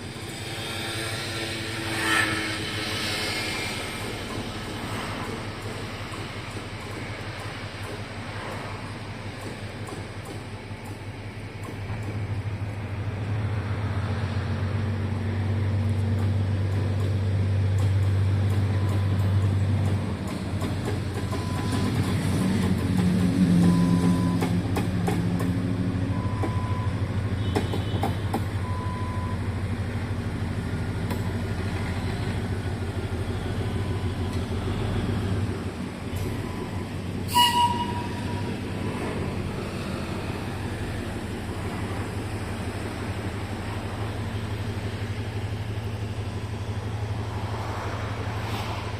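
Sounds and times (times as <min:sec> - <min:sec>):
train rumbling: 0:00.0 - 0:48.9.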